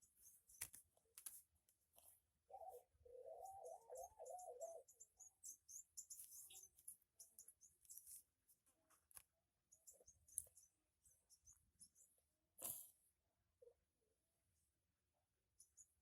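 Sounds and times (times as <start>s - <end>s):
faint high-pitched squeaks and ticks: 0.0s - 14.0s, 15.3s - 16.0s.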